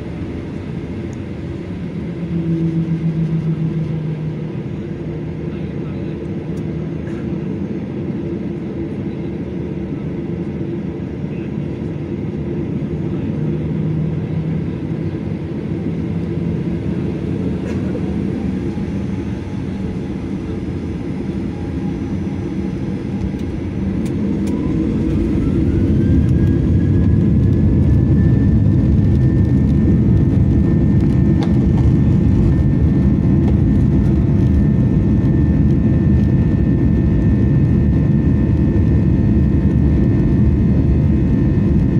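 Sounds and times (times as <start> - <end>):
jet engine rumble: 0.0 - 41.9
jet engine whine spooling up: 0.0 - 41.9.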